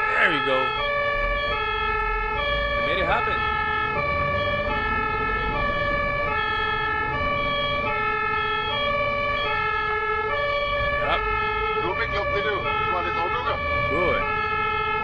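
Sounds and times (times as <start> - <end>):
ambulance two-tone siren: 0.0 - 15.0.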